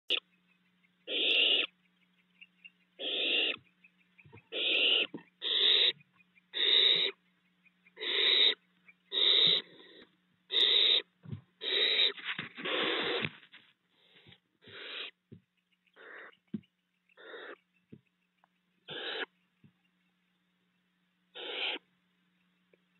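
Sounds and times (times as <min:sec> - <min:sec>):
owl nestlings hissing: 0:00.1 - 0:22.6.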